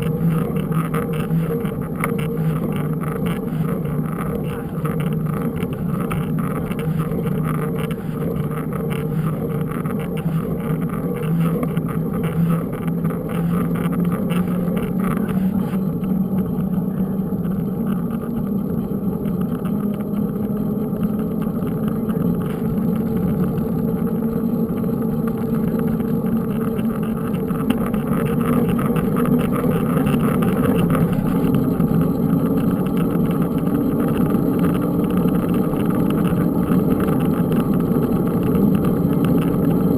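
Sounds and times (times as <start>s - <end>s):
motor engine droning: 0.0s - 39.9s.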